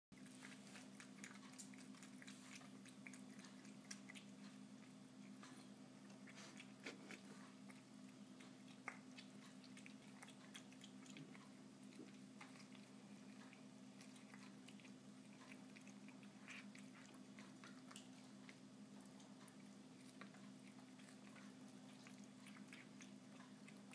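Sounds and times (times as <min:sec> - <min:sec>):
cat chewing and licking: 0:00.2 - 0:23.9
steady low hum: 0:00.2 - 0:23.9.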